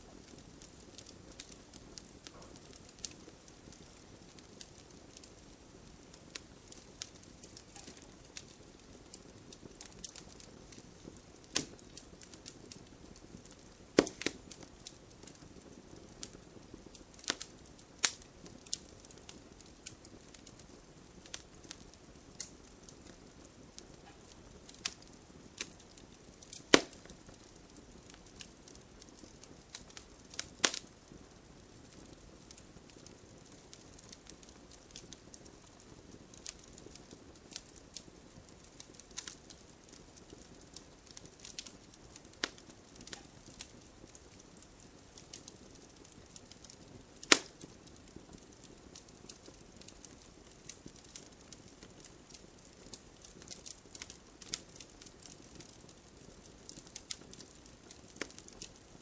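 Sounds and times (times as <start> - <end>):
bonfire crackling and popping: 0.0 - 59.0
light rain hiss: 0.0 - 59.0.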